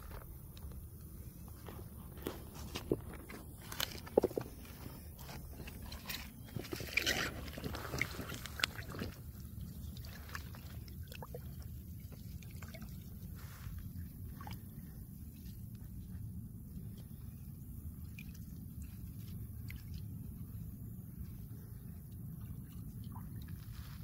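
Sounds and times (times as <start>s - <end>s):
low steady rumble: 0.0s - 24.0s
water sloshing and splashing: 0.1s - 24.0s.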